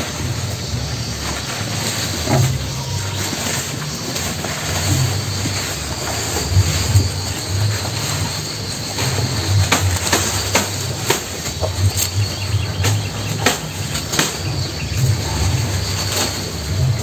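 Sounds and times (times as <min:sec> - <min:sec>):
cattle chewing grass: 0:00.0 - 0:17.0
high insect drone: 0:00.0 - 0:17.0
low rumble: 0:00.0 - 0:17.0.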